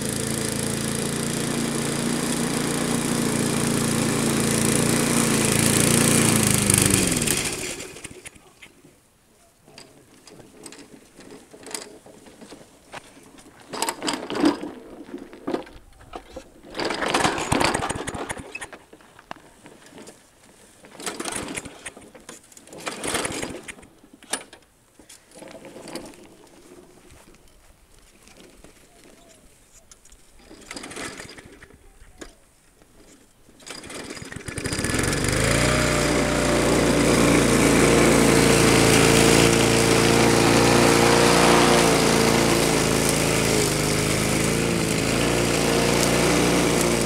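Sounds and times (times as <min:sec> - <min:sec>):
lawn mower engine: 0:00.0 - 0:08.4, 0:10.2 - 0:24.6, 0:28.0 - 0:47.0.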